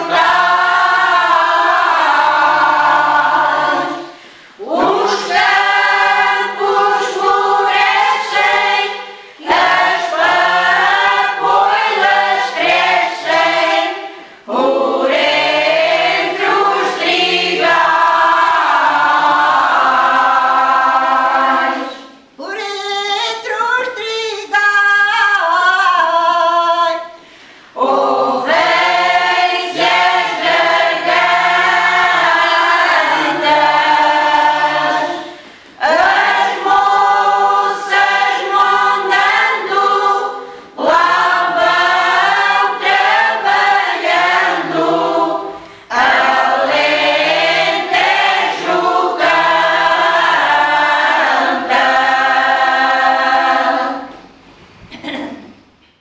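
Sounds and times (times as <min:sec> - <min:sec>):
women's choir singing: 0:00.0 - 0:22.4, 0:25.3 - 0:54.4.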